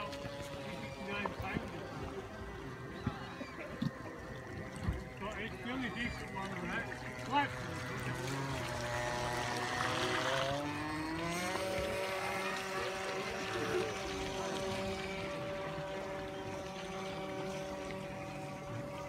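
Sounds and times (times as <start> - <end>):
model boat motor whining: 0.0 - 19.0.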